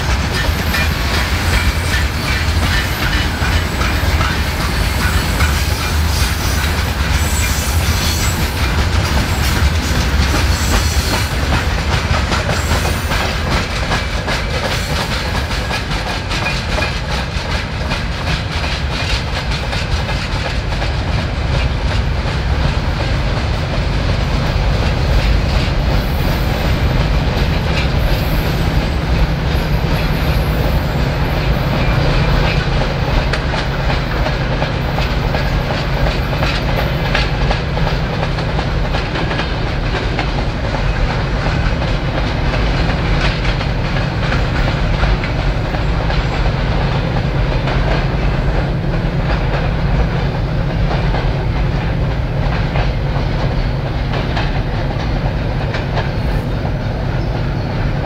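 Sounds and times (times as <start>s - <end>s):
freight train wheels clicking on rails: 0.0s - 58.0s
train rumble: 0.0s - 58.0s.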